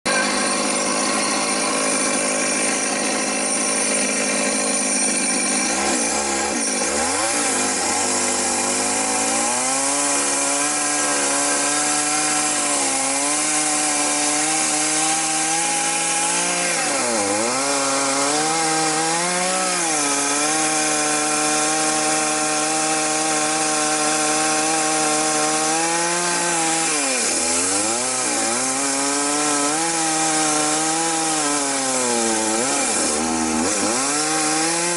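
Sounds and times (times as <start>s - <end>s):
chainsaw cutting a log: 0.1s - 34.9s.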